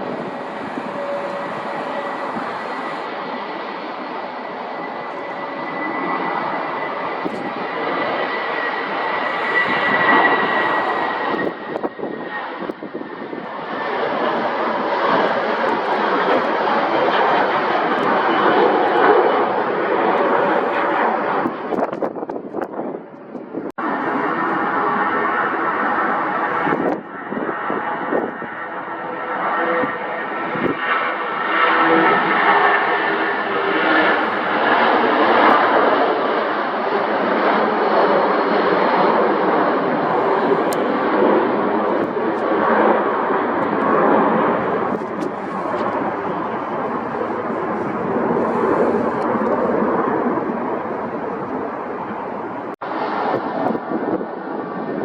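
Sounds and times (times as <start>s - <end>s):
jet engines passing: 0.0s - 55.0s.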